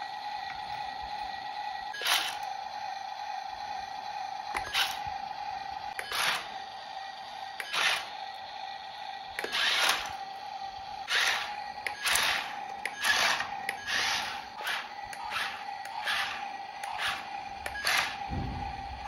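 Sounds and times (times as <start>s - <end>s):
toy motor whirring: 0.0s - 19.0s.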